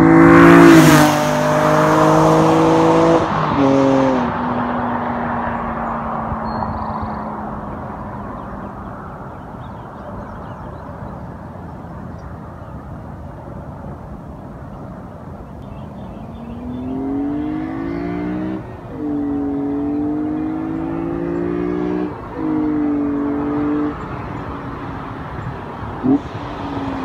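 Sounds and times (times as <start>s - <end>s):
car engine at high revs passing: 0.0s - 11.1s, 15.7s - 27.0s.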